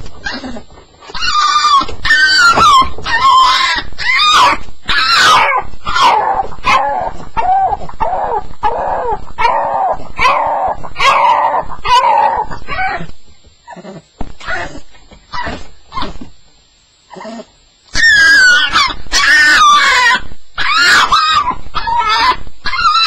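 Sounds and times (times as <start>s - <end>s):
dog yelping whines: 0.2s - 13.8s, 17.1s - 23.0s.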